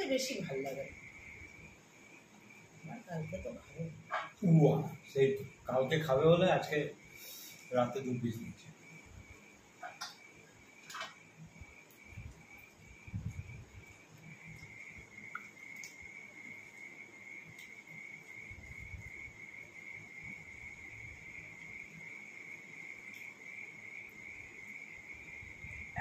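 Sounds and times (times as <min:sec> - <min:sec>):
high-pitched insect trill: 0:00.0 - 0:26.0.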